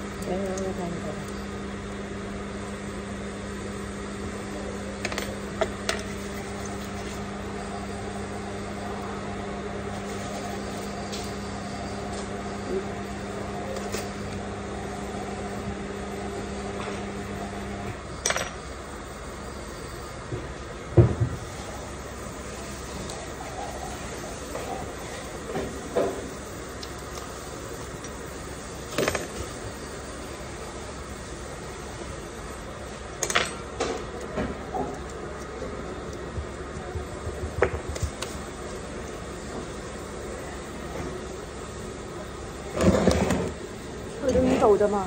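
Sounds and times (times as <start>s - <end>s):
machine humming: 0.0s - 45.0s.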